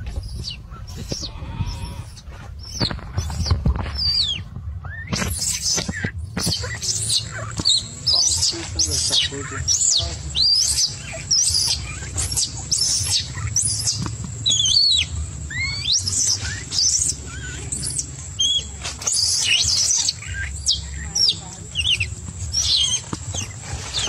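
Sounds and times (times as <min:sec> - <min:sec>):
baby monkey screaming: 0:00.0 - 0:24.0
low steady hum: 0:00.0 - 0:24.0.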